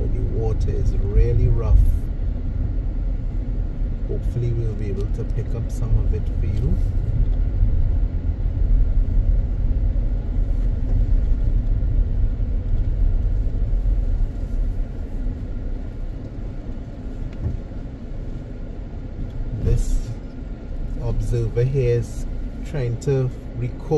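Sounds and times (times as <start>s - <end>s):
car cabin road and engine rumble: 0.0s - 23.9s.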